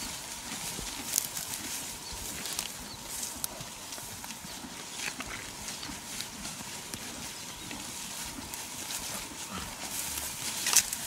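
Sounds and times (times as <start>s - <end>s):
hoof steps in grass: 0.0s - 11.0s.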